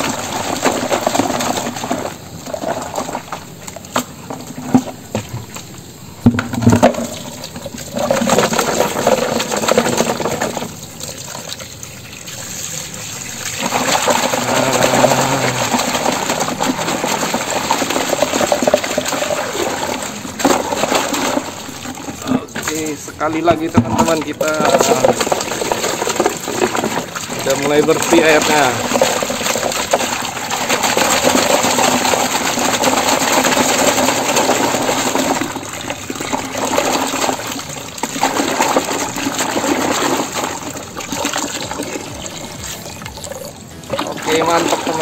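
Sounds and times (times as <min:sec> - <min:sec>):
water from hose splashing into bucket: 0:00.0 - 0:45.0.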